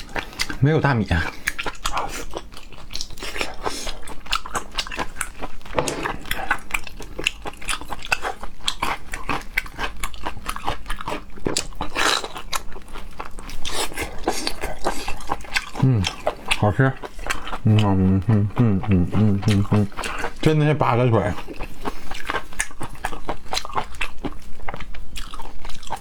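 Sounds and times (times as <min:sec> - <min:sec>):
mouth clicks and crunches: 0:00.0 - 0:26.0
wet chewing and smacking: 0:00.0 - 0:26.0.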